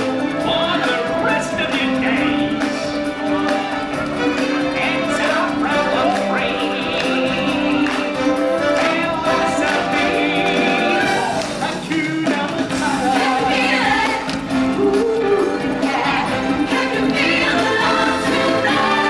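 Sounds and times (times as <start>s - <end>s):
voices singing held notes: 0.0s - 19.0s.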